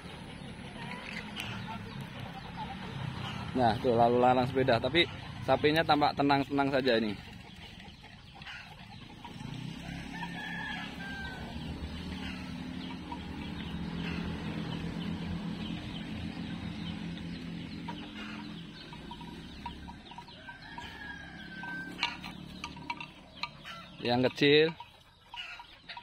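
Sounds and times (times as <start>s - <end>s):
chickens clucking: 0.0s - 26.0s
passing engine hum: 0.0s - 26.0s.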